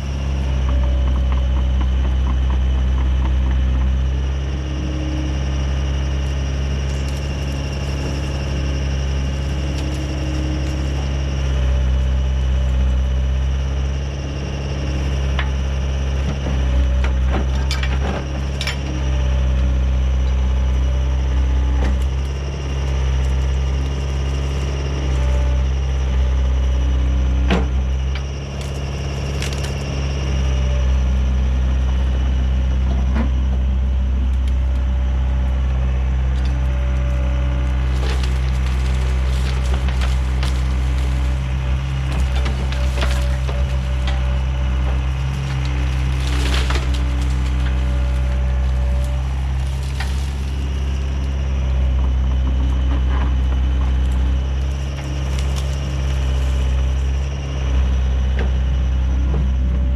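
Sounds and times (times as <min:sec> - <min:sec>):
branches cracking and snapping: 0:00.0 - 0:32.4, 0:33.2 - 0:58.5
excavator diesel engine running: 0:00.0 - 0:59.9.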